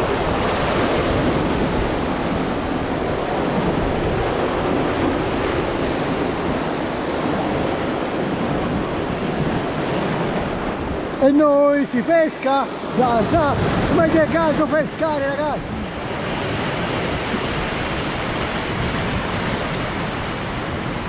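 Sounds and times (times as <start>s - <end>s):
sea waves breaking on rocks: 0.0s - 21.0s.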